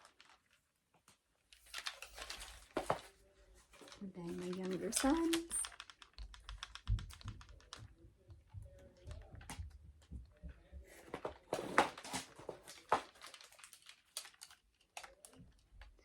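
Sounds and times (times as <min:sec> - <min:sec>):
small objects clicking and rustling: 0:00.0 - 0:08.0, 0:11.0 - 0:16.0.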